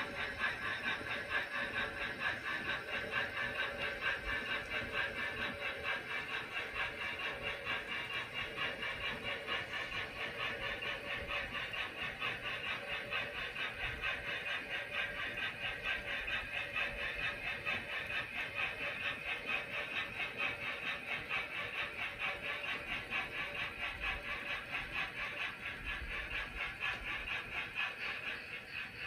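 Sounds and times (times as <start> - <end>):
constant hum: 0.0 - 29.0
model train clacking on track: 0.0 - 29.0.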